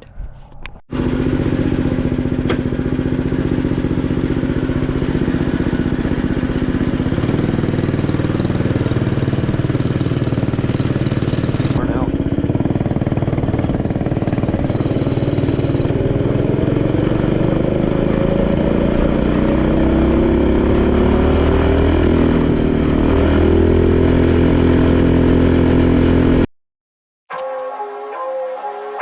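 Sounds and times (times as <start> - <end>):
small engine revving: 0.9 - 26.5.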